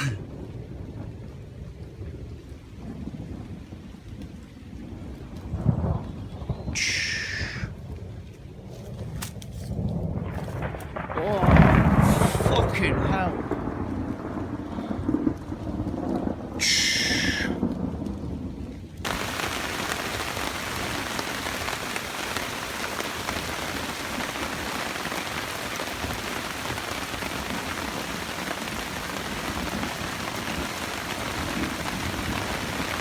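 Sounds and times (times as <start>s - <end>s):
heavy rain pouring: 0.0s - 33.0s
thunder rumbling: 0.0s - 33.0s.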